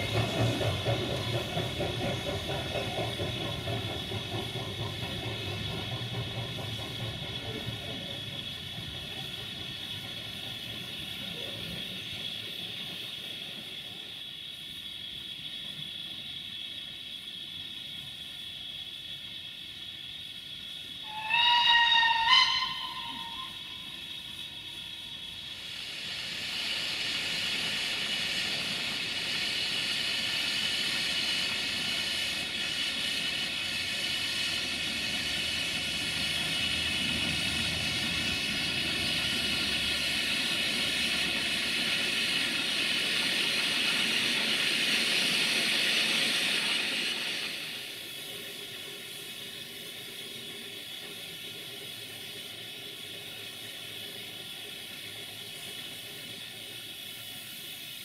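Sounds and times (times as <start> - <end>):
steam locomotive venting steam: 0.0 - 58.0.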